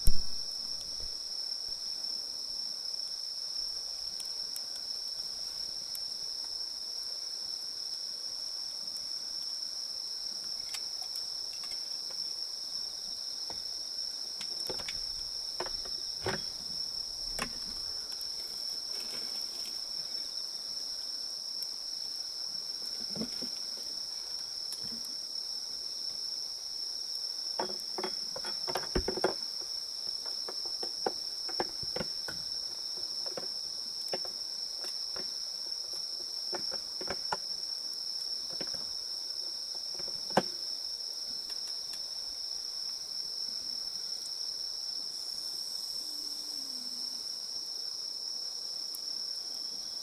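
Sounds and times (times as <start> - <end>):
campfire crackling: 0.0 - 43.2
crickets trilling: 0.0 - 50.0.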